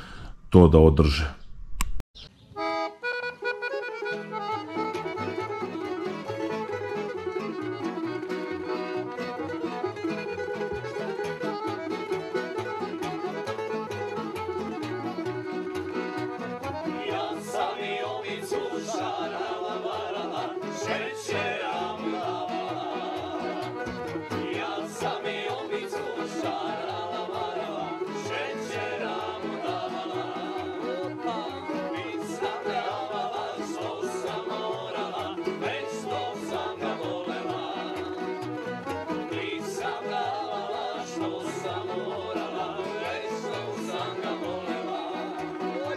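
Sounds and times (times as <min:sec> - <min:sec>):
bluegrass music with plucked strings: 0:02.6 - 0:45.9.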